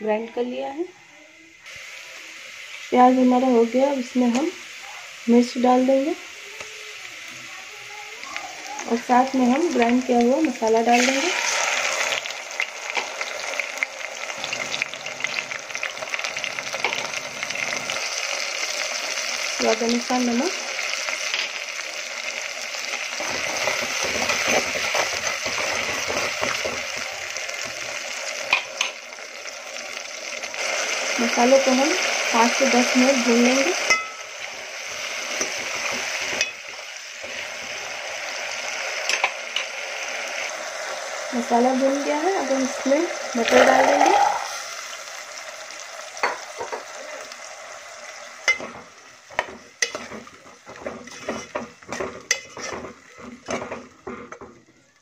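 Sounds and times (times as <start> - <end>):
onions frying in oil sizzling: 0.0 - 55.0.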